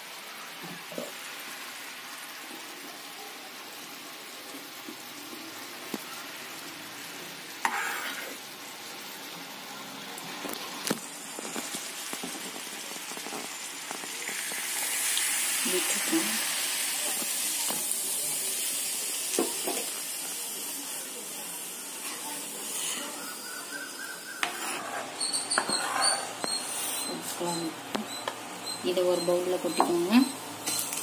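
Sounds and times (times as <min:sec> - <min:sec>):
syrup bubbling in a pan: 0:00.2 - 0:27.1.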